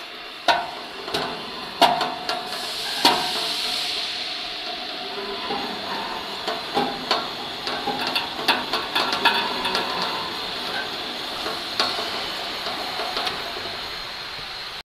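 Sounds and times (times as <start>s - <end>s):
steady machine hiss: 0.0s - 14.8s
metal clanks and knocks: 0.4s - 3.9s, 4.7s - 13.9s.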